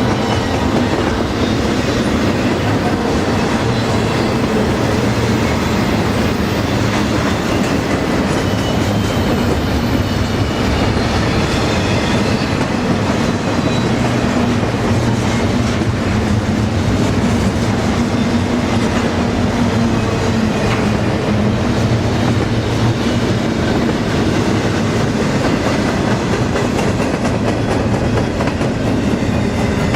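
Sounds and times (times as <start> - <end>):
freight train rolling past: 0.0 - 29.9
steel wheels clattering on rail: 0.0 - 29.9.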